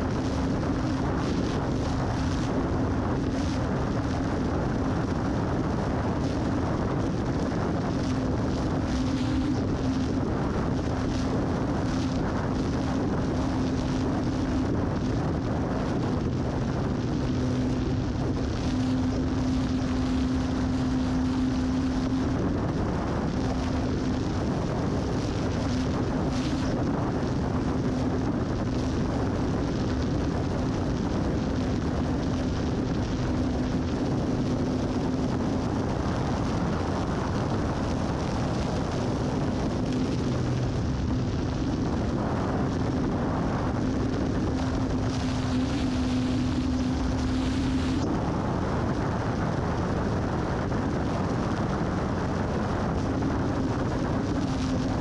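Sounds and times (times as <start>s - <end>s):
motor and propeller hum: 0.0s - 55.0s
wind rushing over microphone: 0.0s - 55.0s.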